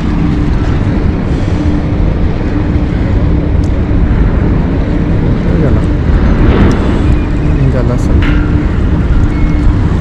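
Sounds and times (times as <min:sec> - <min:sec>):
faint steady hum: 0:00.0 - 0:10.0
wind rumbling on microphone: 0:00.0 - 0:10.0.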